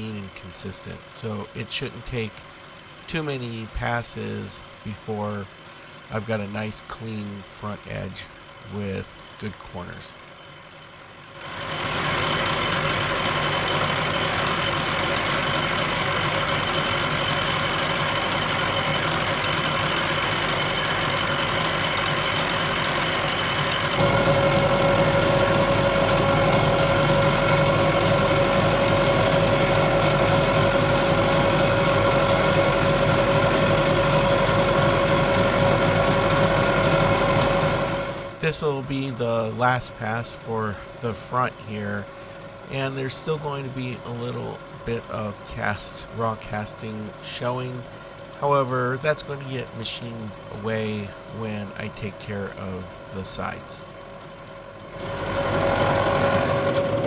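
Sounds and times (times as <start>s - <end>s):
milling machine running: 0.0s - 57.0s
steady machine whine: 0.0s - 57.0s.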